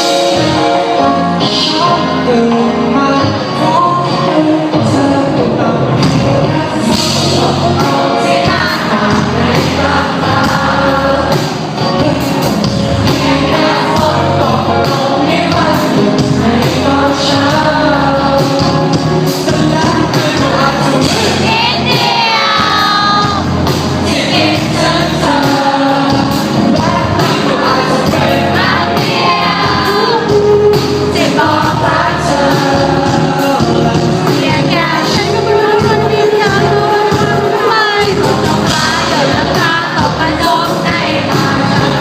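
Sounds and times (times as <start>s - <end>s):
electric bass: 0.0s - 42.0s
live band playing: 0.0s - 42.0s
person singing: 0.0s - 42.0s.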